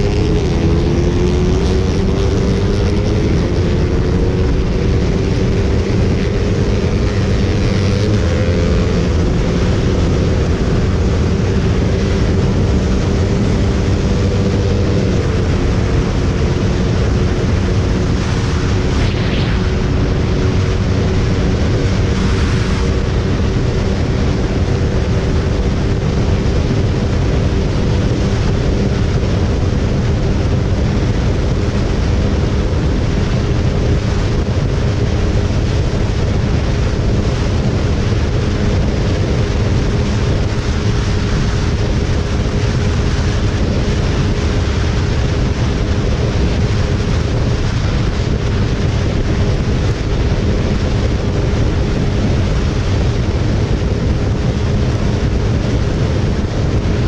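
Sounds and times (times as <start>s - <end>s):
motorcycle engine droning: 0.0s - 57.0s
wind noise on microphone: 0.0s - 57.0s.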